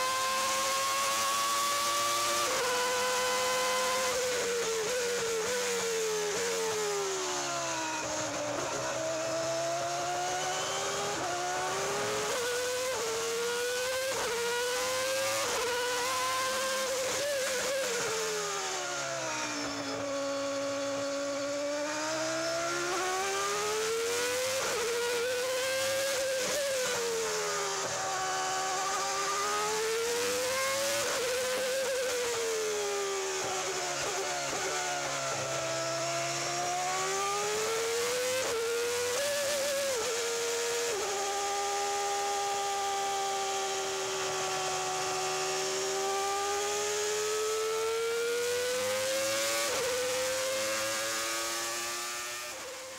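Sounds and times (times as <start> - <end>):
racing car engine revving: 0.0 - 52.9.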